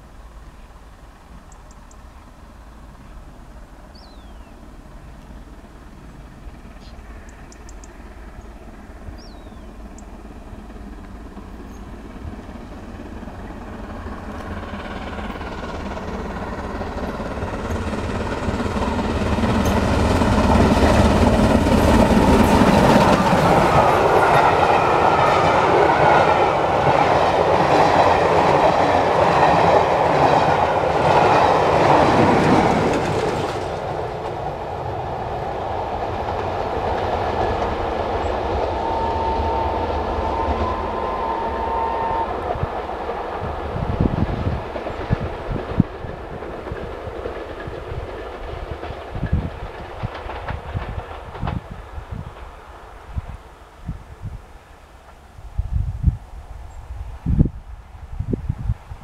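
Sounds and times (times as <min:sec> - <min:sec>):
steam train passing: 0:00.0 - 0:59.0.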